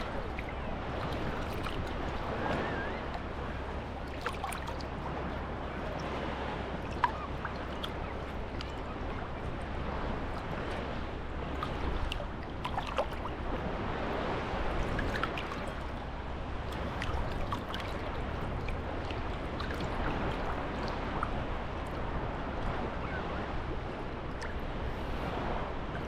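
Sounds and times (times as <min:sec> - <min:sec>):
small waves washing on beach: 0:00.0 - 0:26.0.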